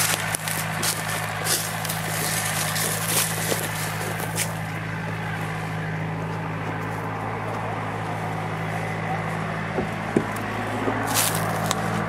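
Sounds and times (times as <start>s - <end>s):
crackling and rustling: 0.0s - 12.0s
engine droning: 0.0s - 12.0s.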